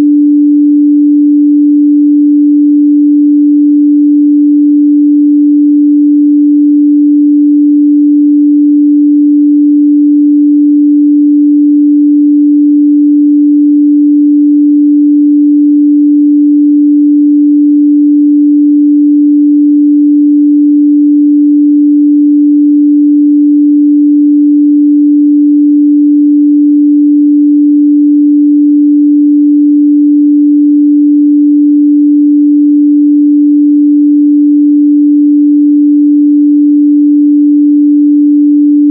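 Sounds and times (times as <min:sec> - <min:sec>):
sine wave test tone: 0:00.0 - 0:38.9.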